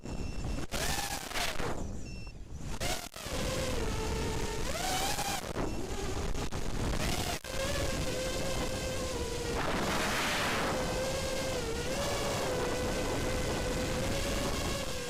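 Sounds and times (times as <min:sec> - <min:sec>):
quadcopter motors whining: 0:00.0 - 0:15.0
wind rushing over microphone: 0:00.0 - 0:15.0.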